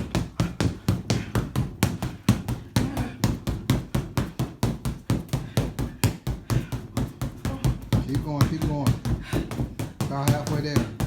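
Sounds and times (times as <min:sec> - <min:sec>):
punches on a punching bag: 0:00.0 - 0:11.0.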